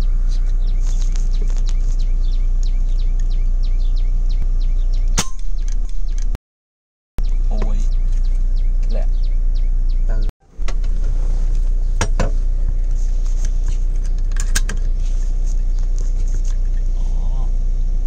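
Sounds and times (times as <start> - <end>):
small birds chirping: 0.0 - 6.4, 7.2 - 10.3, 11.6 - 18.0.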